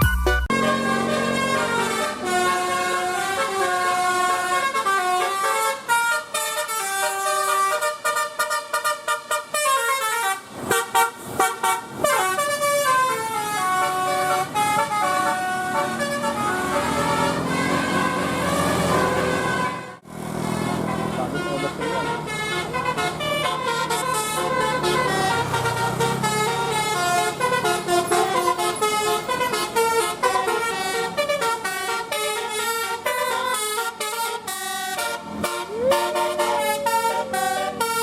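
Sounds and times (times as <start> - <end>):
musical bus air horn: 0.0 - 38.0.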